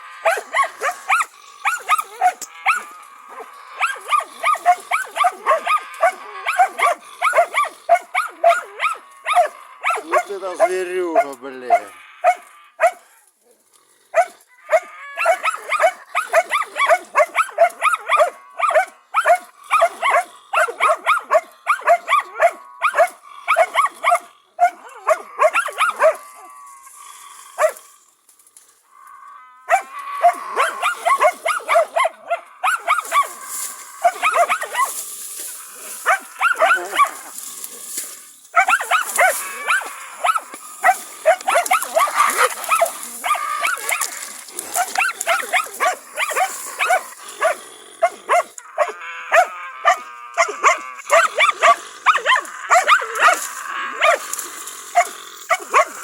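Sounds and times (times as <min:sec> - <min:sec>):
dogs barking high-pitched: 0:00.0 - 0:13.2, 0:14.1 - 0:26.6, 0:27.6 - 0:27.9, 0:29.6 - 0:56.0.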